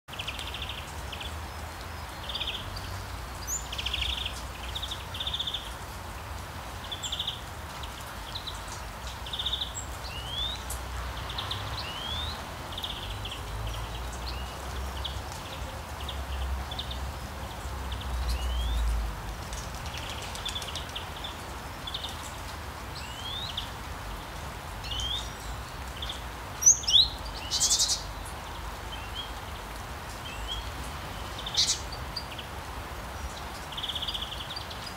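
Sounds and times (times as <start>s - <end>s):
birds chirping: 6.8s - 34.9s.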